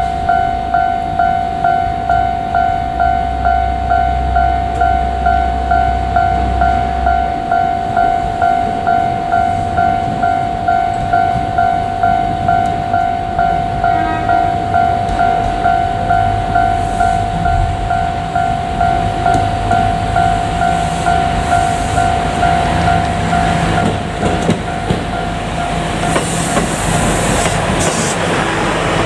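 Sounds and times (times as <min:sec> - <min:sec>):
level crossing warning bell: 0:00.0 - 0:26.2.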